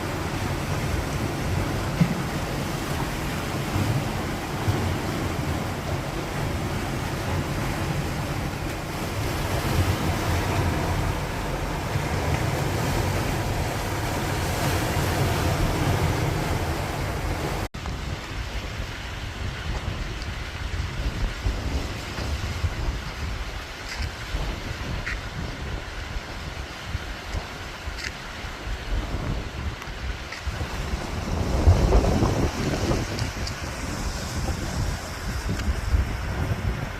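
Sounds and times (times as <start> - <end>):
sea waves on rocky shore: 0.0 - 36.9
wind buffeting microphone: 0.0 - 36.9.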